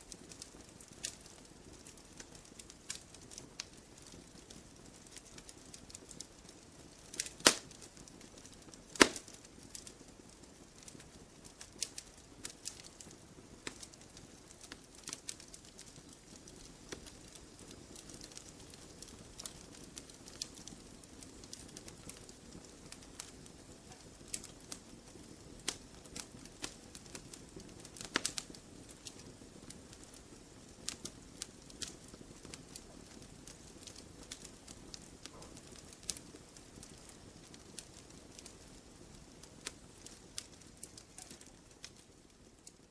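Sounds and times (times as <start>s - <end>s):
campfire crackling and popping: 0.0s - 42.9s
fire hissing: 0.1s - 42.9s.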